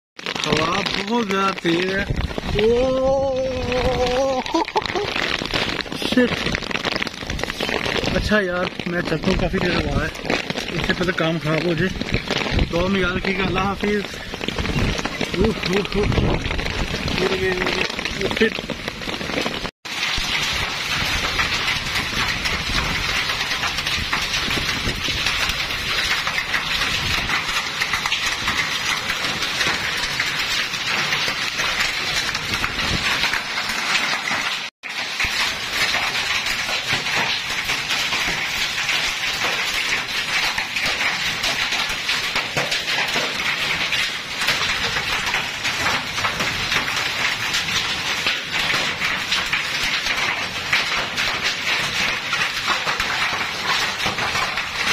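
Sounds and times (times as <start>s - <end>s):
heavy rain and hail pelting: 0.2s - 54.9s.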